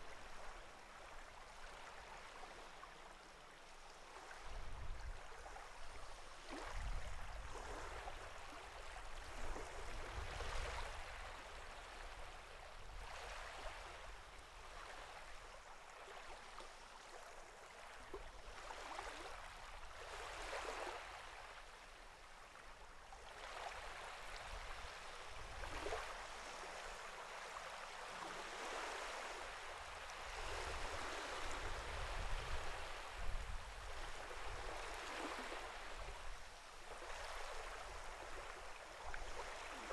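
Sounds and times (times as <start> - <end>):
sea water lapping and splashing: 0.0 - 39.9.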